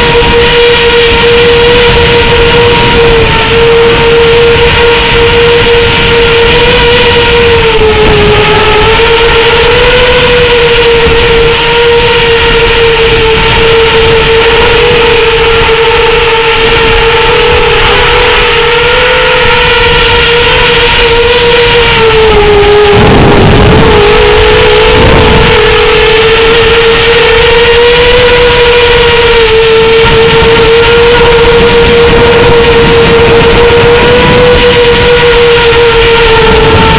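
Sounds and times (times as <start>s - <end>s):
quadcopter motors whining: 0.0s - 36.9s.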